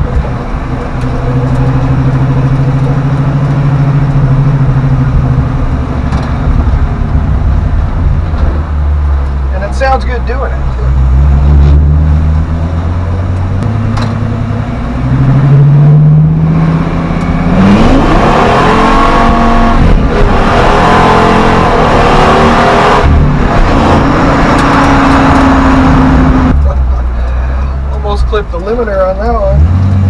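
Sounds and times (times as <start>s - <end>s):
engine accelerating at full throttle: 0.0s - 9.6s, 10.7s - 27.4s.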